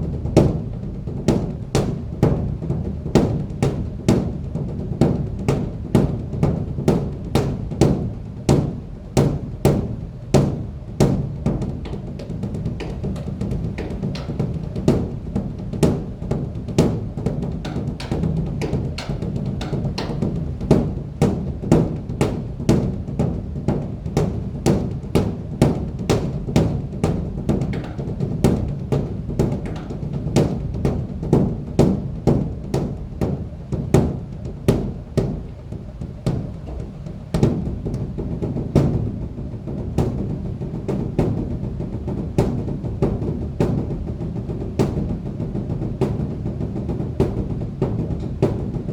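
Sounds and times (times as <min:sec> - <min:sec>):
large drum beaten with sticks: 0:00.0 - 0:48.9.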